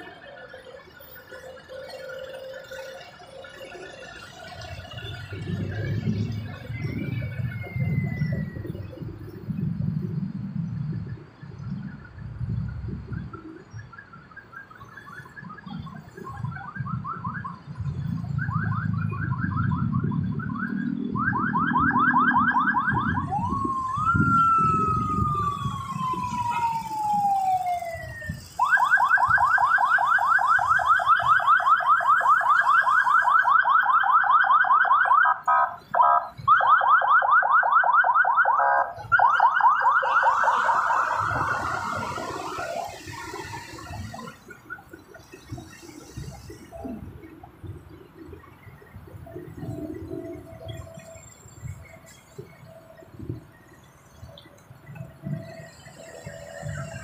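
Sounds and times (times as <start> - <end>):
electronic siren wailing: 0.0 - 57.0
traffic rumble: 0.0 - 57.0.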